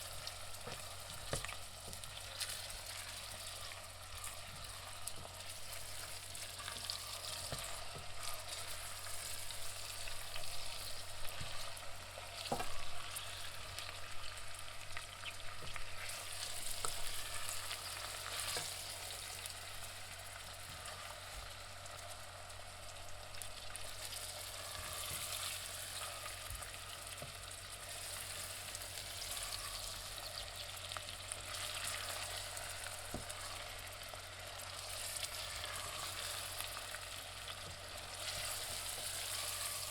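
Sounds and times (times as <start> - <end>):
onions sizzling in hot oil: 0.0 - 39.9.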